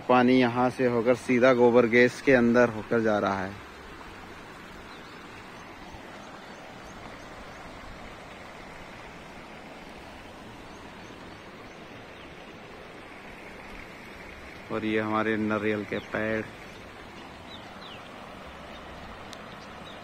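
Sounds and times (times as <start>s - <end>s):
runoff water flowing: 0.0s - 20.0s.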